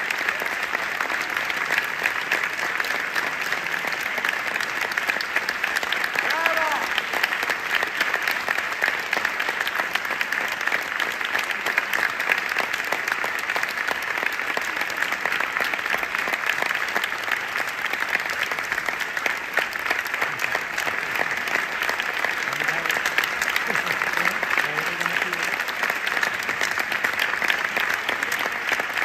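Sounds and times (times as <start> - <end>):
audience applauding: 0.0 - 29.0.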